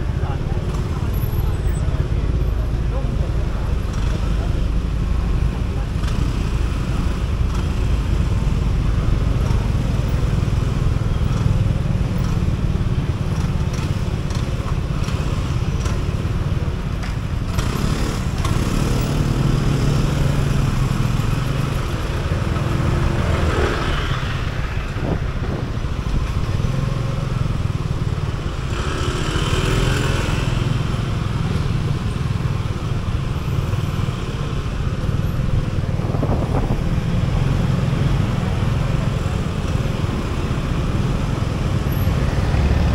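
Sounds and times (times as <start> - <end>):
nearby traffic: 0.0 - 42.9
road noise rumble: 0.0 - 42.9.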